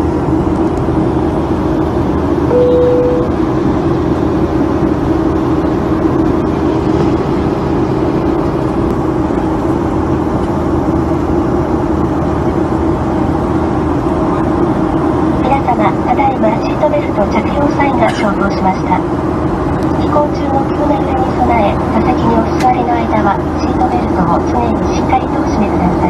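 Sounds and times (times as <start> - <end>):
constant hum: 0.0 - 26.0
jet engines droning: 0.0 - 26.0.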